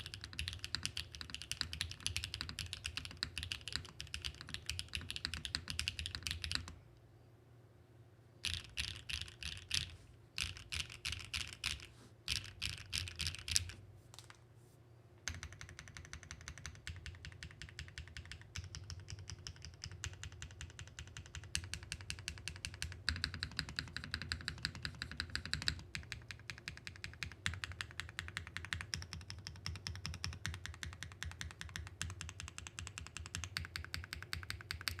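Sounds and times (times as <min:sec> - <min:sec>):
mechanical keyboard typing: 0:00.0 - 0:06.8, 0:08.4 - 0:14.4, 0:15.3 - 0:35.0.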